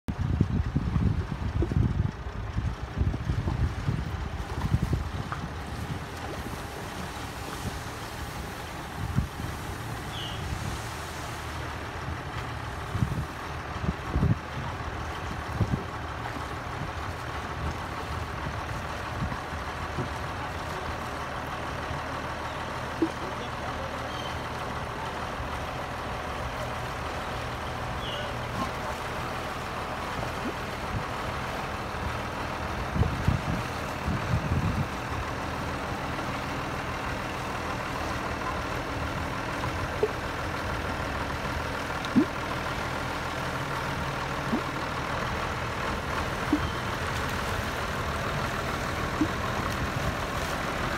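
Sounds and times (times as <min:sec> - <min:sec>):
tractor engine running: 0:00.1 - 0:50.9.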